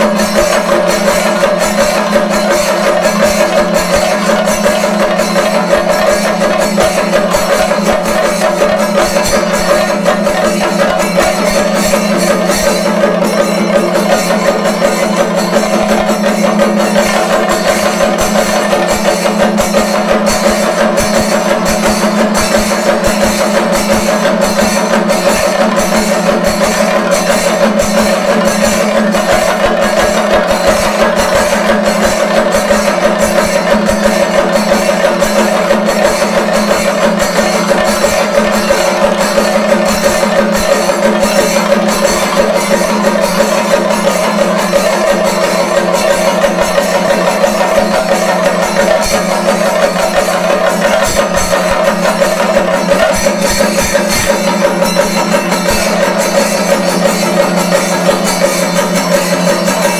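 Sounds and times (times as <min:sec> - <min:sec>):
drums beaten with sticks: 0:00.0 - 0:59.9
hand cymbals clashing: 0:00.0 - 0:59.9.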